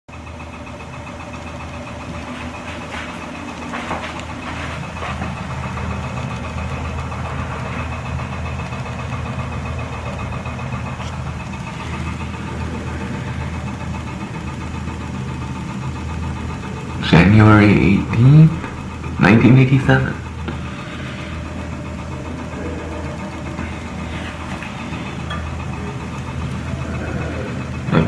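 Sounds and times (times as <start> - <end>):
low mechanical hum: 0.1 - 28.0.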